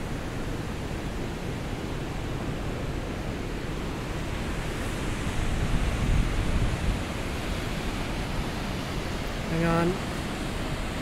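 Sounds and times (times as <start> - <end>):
creek and waterfall rushing: 0.0 - 11.0
wind buffeting microphone: 0.0 - 11.0.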